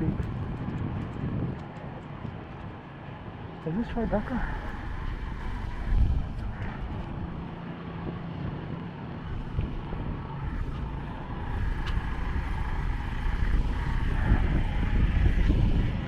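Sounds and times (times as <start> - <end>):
vehicle engine running: 0.0 - 16.0
wind buffeting microphone: 0.0 - 16.0.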